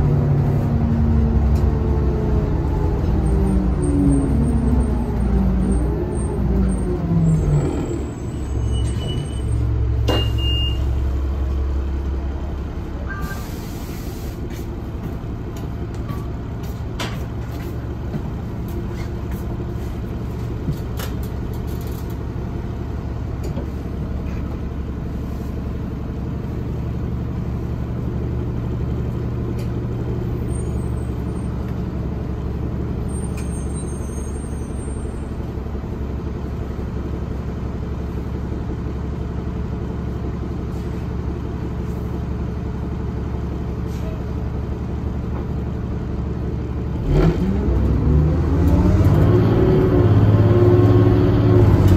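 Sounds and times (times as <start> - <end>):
bus drivetrain winding down: 0.0 - 51.9
diesel engine droning: 0.0 - 51.9.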